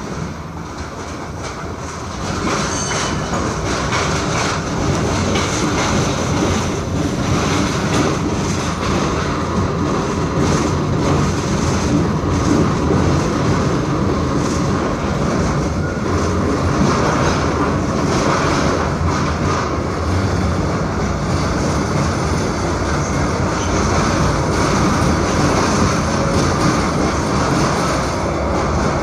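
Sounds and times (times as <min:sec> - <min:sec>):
tram wheels rumbling on rails: 0:00.0 - 0:29.0.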